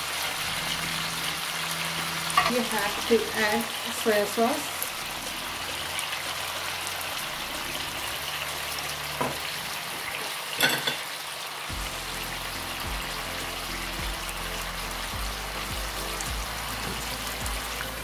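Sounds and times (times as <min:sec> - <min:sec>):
soft background music: 0:00.0 - 0:10.8, 0:11.6 - 0:18.0
chicken sizzling in a frying pan: 0:00.0 - 0:18.0.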